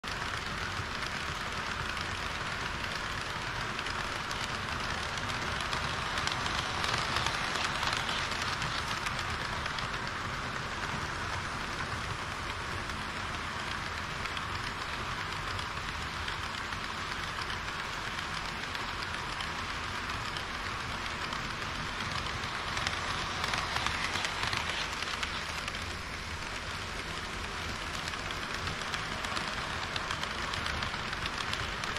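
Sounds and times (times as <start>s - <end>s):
model train wheels rattling on rails: 0.0s - 31.9s.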